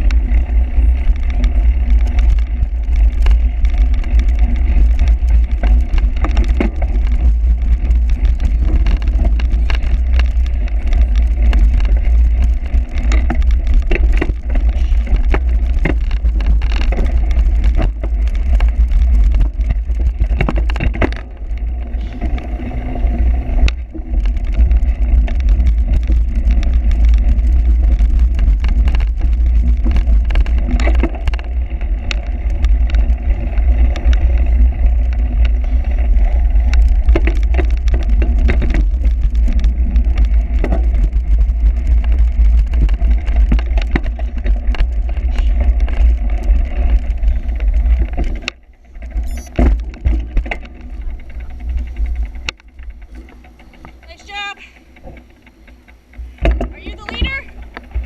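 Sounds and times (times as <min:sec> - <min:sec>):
bike clattering over rough ground: 0:00.0 - 0:58.0
wind rumble on microphone: 0:00.0 - 0:58.0.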